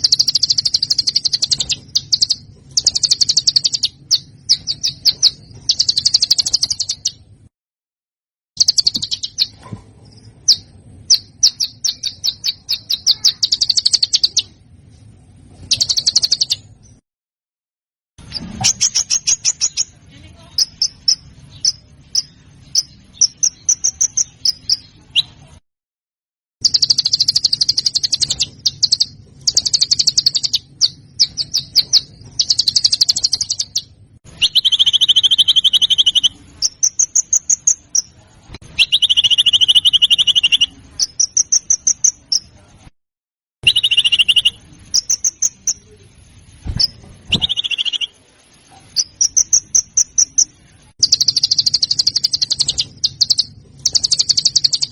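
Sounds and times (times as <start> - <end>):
songbird chattering and trilling: 0.0 - 7.3, 8.6 - 14.6, 15.6 - 17.0, 18.2 - 25.5, 26.6 - 42.6, 43.6 - 54.9.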